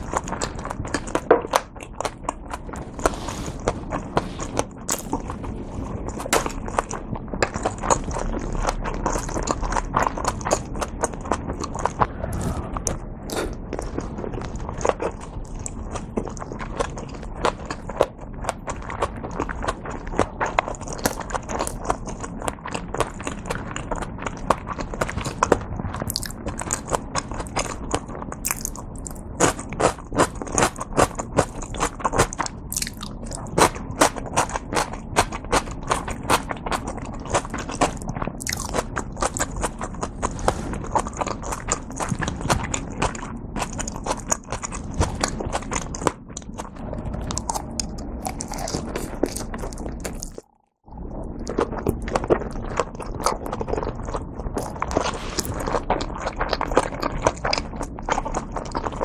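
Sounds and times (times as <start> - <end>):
wet chewing mouth sounds: 0.0 - 59.0.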